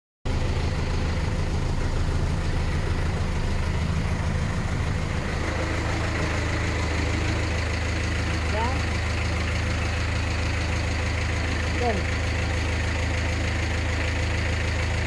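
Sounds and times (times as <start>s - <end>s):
rear axle low drone: 0.3s - 15.0s.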